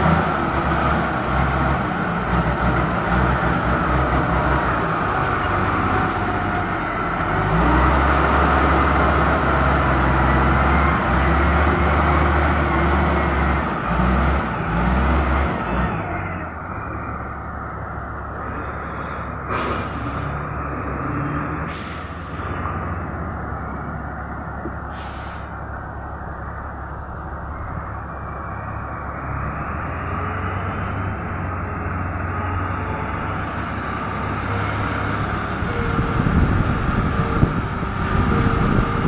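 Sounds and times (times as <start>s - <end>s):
diesel engine rumbling: 0.0s - 39.0s.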